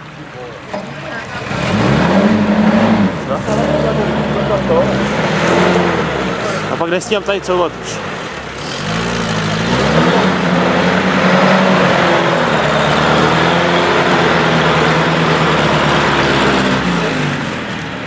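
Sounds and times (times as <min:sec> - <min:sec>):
off-road vehicle engine under load: 0:00.0 - 0:18.0.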